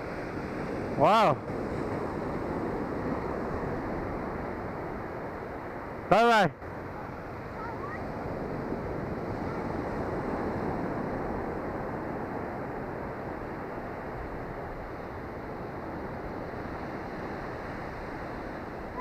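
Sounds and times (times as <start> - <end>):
ocean surf washing up beach: 0.0 - 19.0.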